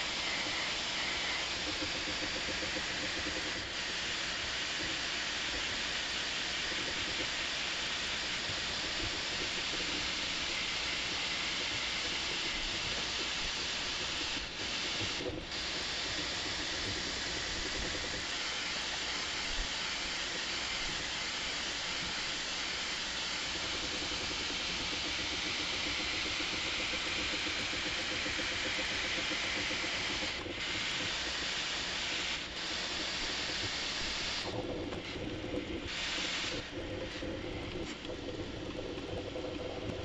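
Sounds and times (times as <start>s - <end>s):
sped-up printer motors hiss: 0.0s - 40.0s.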